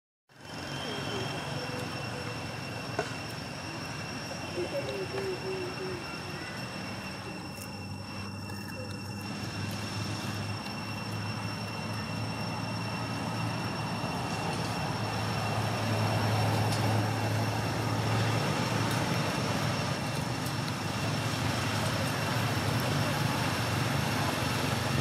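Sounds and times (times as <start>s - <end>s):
faint high whine: 0.3s - 25.0s
vehicle engine hum: 0.3s - 25.0s.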